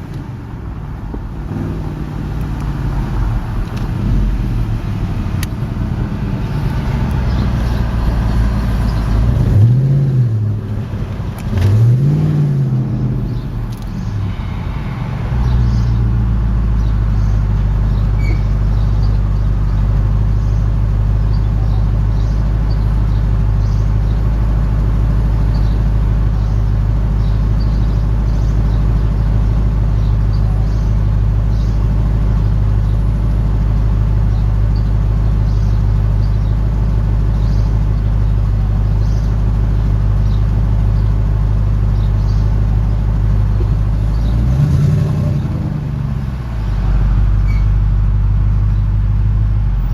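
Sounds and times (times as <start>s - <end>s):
unmuffled car engine drone: 0.0s - 49.9s.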